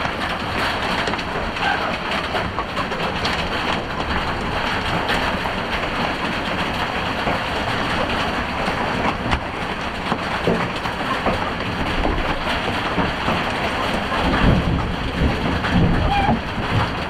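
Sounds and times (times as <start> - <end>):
hail clattering: 0.0 - 17.0.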